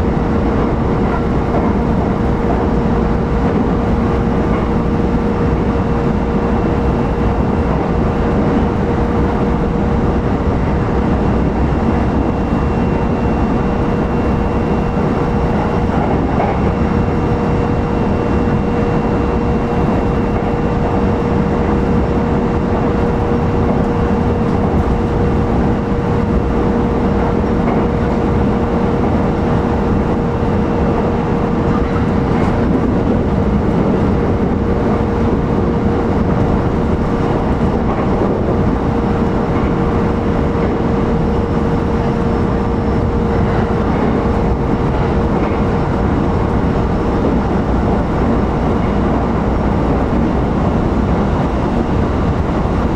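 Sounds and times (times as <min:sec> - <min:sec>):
steady motor whine: 0:00.0 - 0:52.9
train rumble and rail noise: 0:00.0 - 0:52.9.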